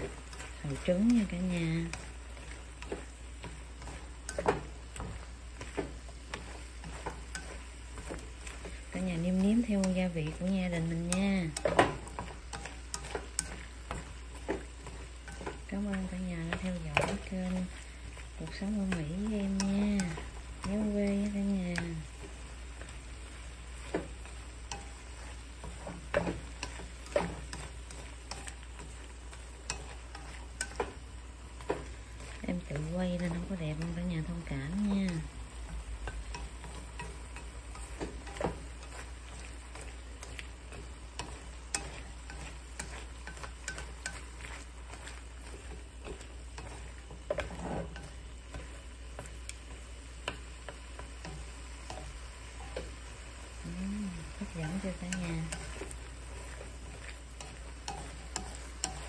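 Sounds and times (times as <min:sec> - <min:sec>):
chopsticks tapping a wok: 0:00.0 - 0:59.0
faint frying sizzle: 0:00.0 - 0:59.0.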